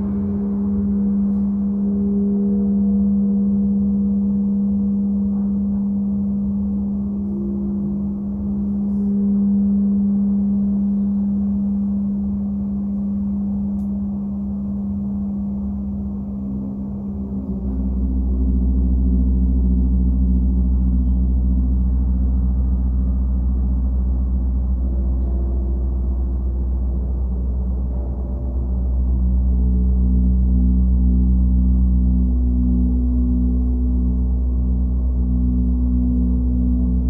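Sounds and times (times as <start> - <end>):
monochord and gong drone: 0.0 - 37.0.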